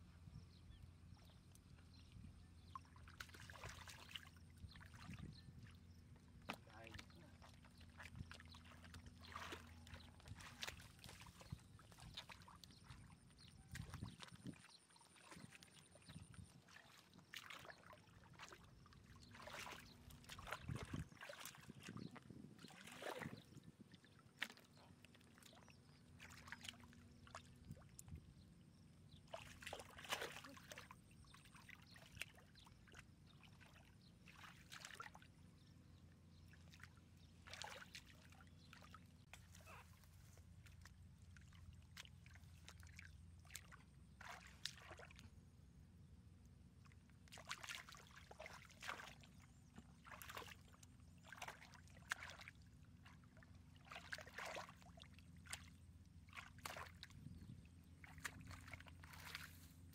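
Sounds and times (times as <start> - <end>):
splashing in shallow water: 1.3 - 45.7, 46.6 - 59.9.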